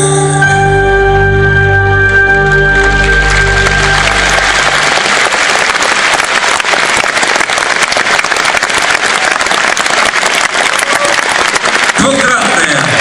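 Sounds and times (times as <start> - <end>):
audience applauding: 1.2 - 13.0.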